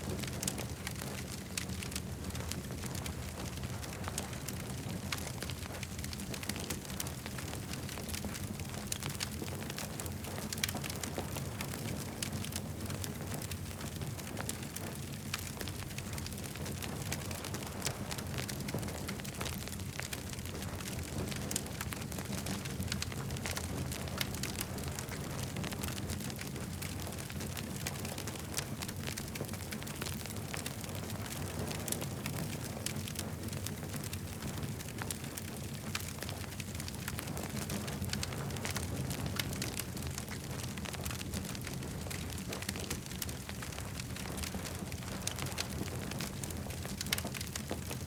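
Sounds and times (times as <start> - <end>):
campfire crackling: 0.1 - 48.0.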